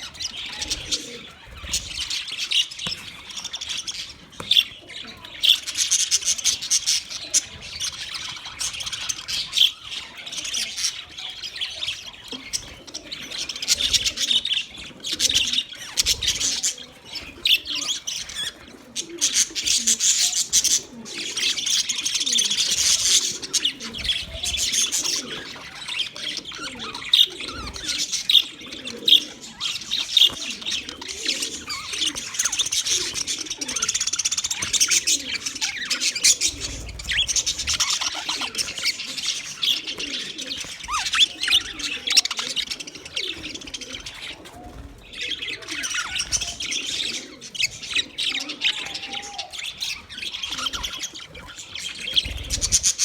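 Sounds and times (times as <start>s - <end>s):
budgerigars chirping and chattering: 0.0s - 53.0s.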